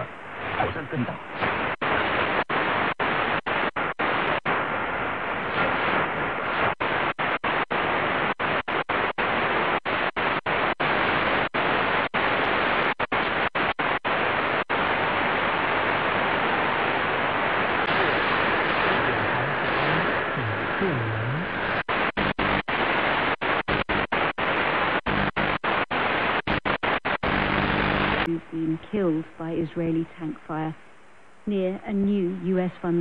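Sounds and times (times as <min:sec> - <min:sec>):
shortwave radio static hiss: 0:00.0 - 0:33.0.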